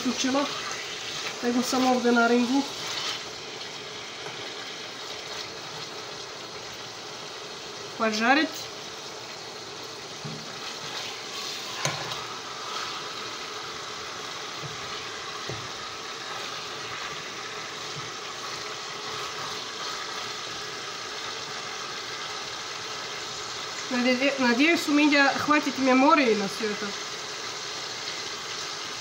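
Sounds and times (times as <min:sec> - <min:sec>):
chicken sizzling in a pot: 0:00.0 - 0:29.0.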